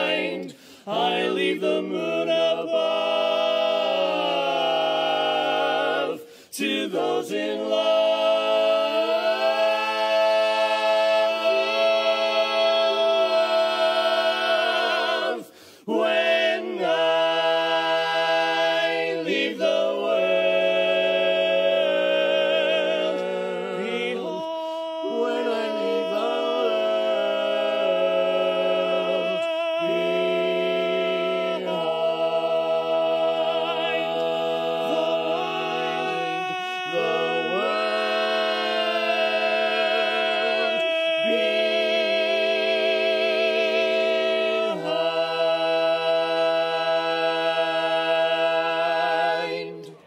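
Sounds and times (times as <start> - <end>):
men singing a cappella: 0.0 - 50.0.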